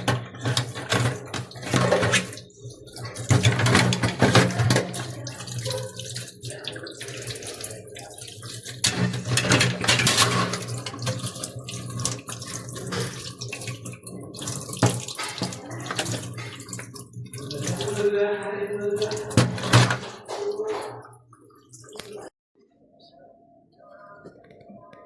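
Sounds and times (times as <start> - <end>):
water running from a tap: 0.0 - 22.3.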